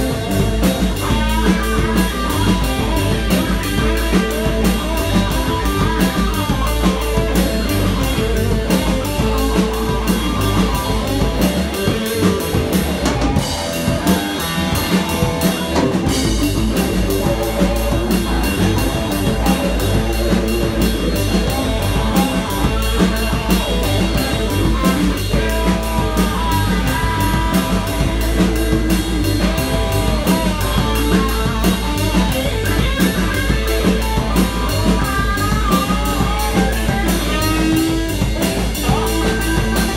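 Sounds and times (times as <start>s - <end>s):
blues band playing: 0.0s - 39.9s
lead guitar bending notes: 0.0s - 39.9s.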